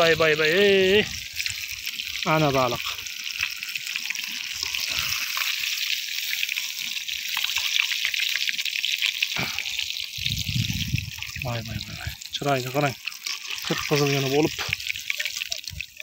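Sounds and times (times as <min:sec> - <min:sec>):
small fire crackling: 0:00.0 - 0:16.0.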